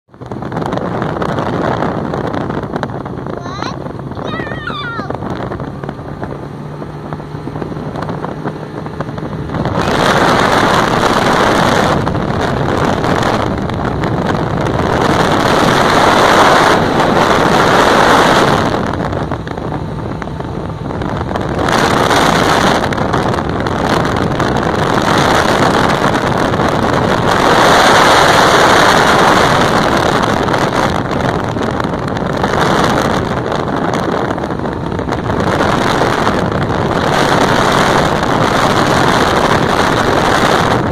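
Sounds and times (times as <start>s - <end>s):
boat motor running: 0.1s - 40.9s
wind buffeting microphone: 0.1s - 40.9s.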